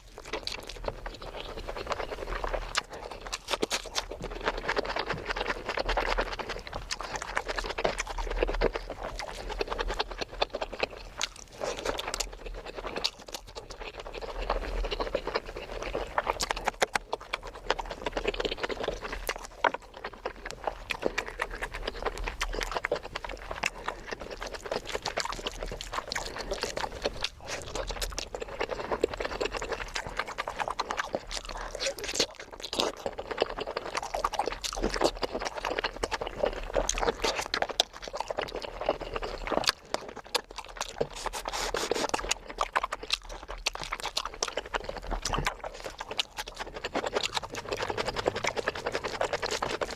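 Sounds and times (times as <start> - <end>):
chewing and wet mouth noises: 0.0 - 49.9.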